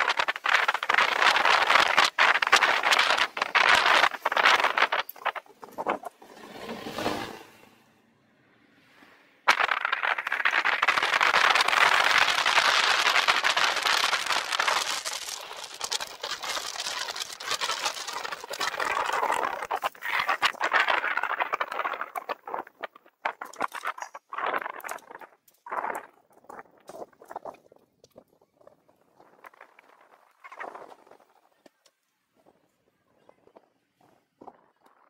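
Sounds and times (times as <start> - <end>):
bicycle riding wind and road noise: 0.0 - 7.6, 8.8 - 35.0.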